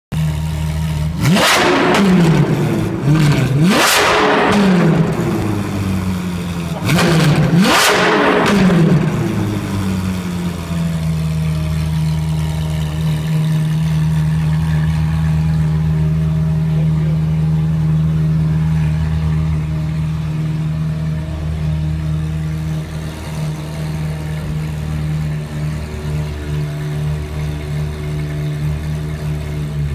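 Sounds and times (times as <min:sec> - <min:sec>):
car engine revving and idling: 0:00.1 - 0:29.9.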